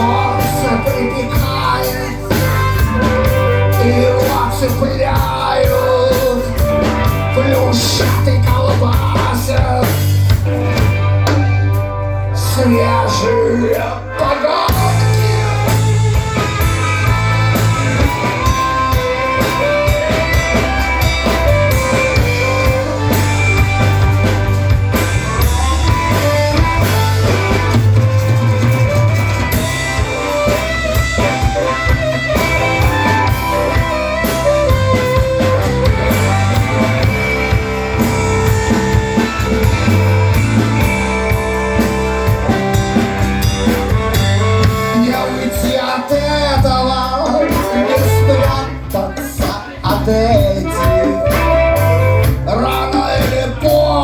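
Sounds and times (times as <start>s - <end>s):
rock band instrumental: 0.0s - 54.0s.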